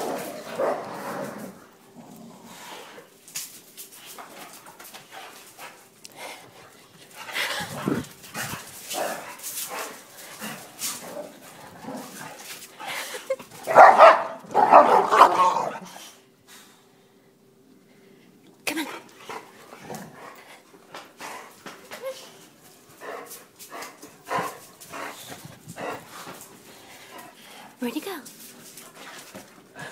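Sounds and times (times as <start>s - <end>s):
dogs play-fighting and barking: 0.0s - 17.0s, 18.5s - 29.9s.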